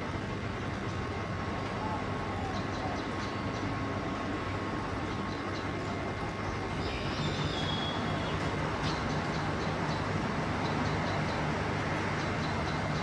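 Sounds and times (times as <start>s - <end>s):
low urban rumble: 0.0s - 13.0s.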